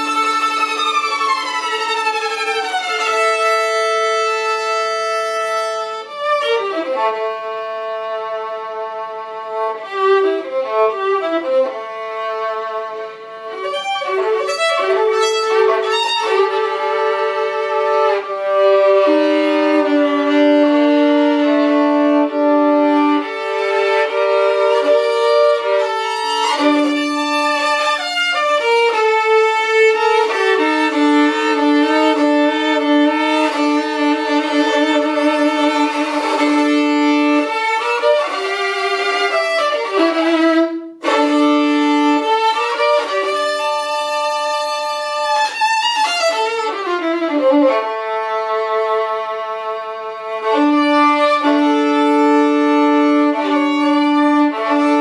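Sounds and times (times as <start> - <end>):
violin melody: 0.0 - 55.0.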